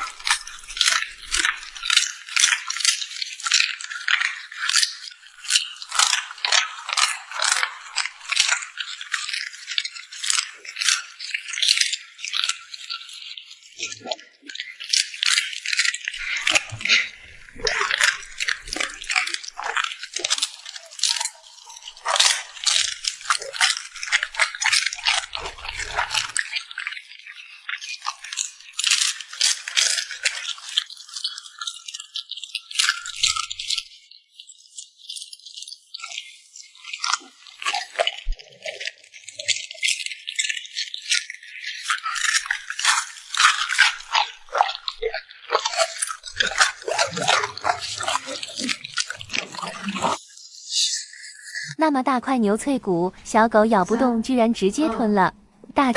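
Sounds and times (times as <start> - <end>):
dog crunching food: 0.0 - 33.9, 35.0 - 51.8.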